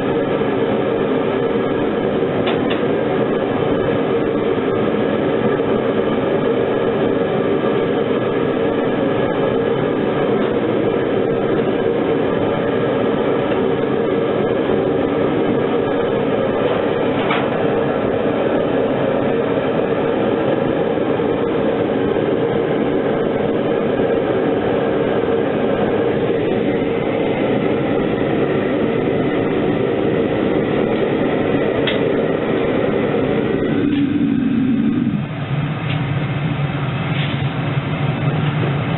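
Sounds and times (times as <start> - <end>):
furnace burner roaring: 0.0 - 38.9.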